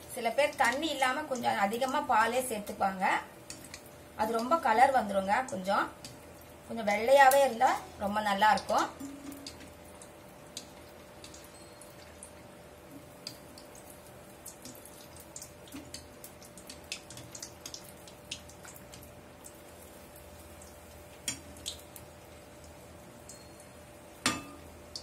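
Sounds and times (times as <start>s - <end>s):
batter deep-frying in oil: 0.0s - 25.0s
faint steady hum: 0.0s - 25.0s.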